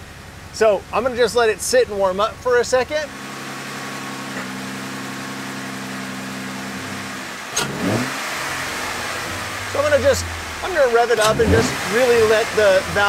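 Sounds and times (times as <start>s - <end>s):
car engine idling: 0.0s - 13.0s
engine hiss: 0.0s - 13.0s.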